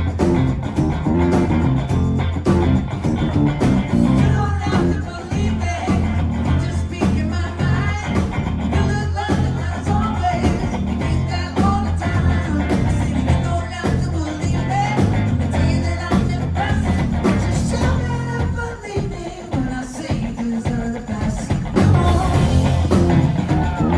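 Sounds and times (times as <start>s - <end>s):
bass line: 0.0s - 18.4s, 21.8s - 23.9s
drums: 0.0s - 23.9s
guitar: 0.0s - 23.9s
man singing: 4.1s - 23.9s.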